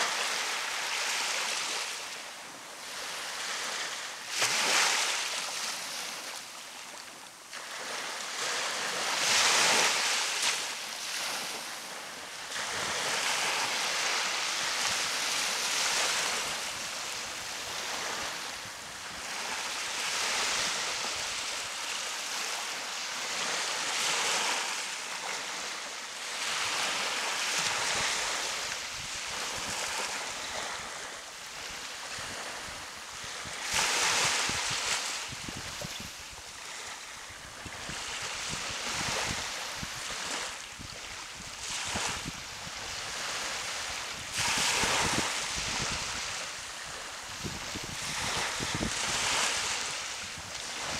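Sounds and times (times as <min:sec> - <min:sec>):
surf washing onto beach: 0:00.0 - 0:50.9.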